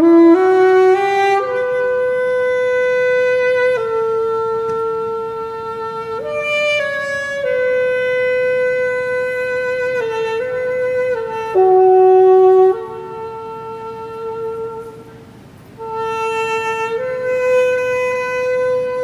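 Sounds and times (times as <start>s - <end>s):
solo saxophone melody: 0.0s - 19.0s.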